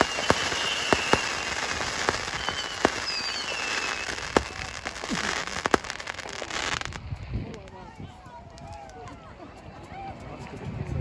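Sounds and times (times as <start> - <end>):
fireworks bangs: 0.0 - 9.0
whistling fireworks: 0.0 - 9.0
fireworks crackling: 0.0 - 9.1.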